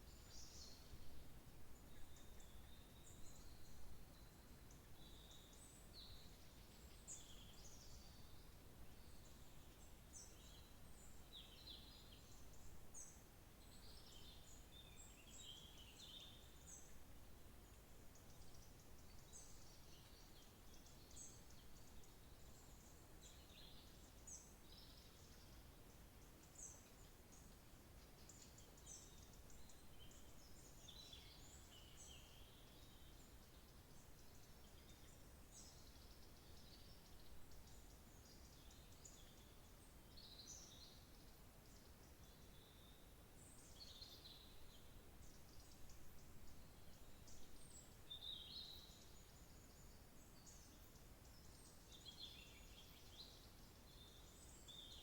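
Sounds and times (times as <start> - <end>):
low background hiss: 0.0 - 55.0
songbirds chirping: 0.0 - 55.0.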